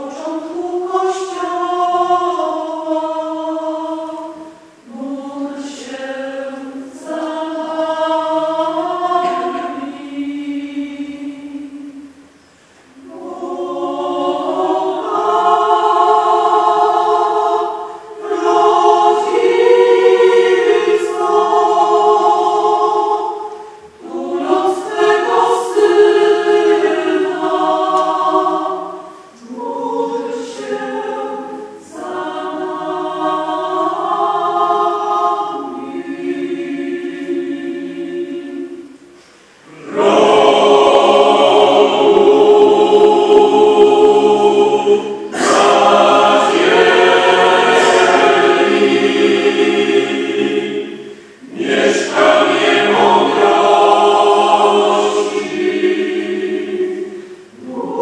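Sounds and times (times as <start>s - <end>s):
mixed choir singing held chords: 0.0s - 58.0s.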